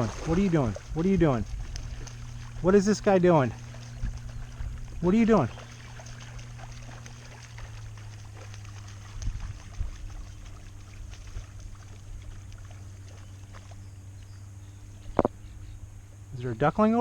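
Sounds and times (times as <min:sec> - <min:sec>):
water trickling: 0:00.0 - 0:16.4
steady low hum: 0:00.0 - 0:17.0.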